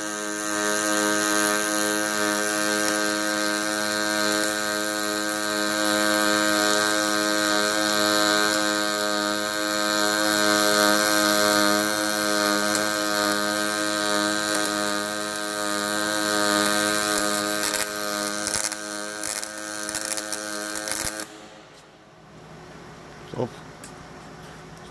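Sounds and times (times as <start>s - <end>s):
welding crackles: 0.0s - 22.3s
welding machine humming and hissing: 0.0s - 24.9s.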